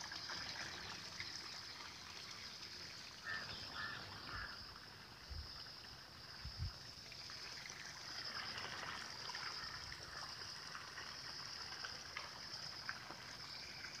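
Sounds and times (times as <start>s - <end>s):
drips and ticks: 0.0s - 14.0s
light rain on water and leaves: 0.0s - 14.0s.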